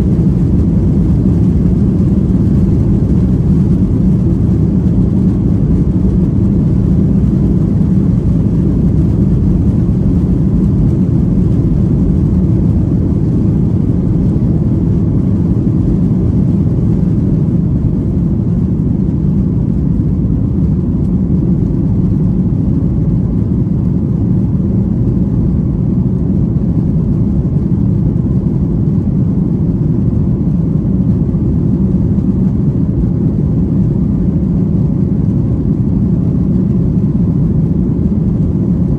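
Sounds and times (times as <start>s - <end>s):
jet cabin engine rumble: 0.0s - 38.9s.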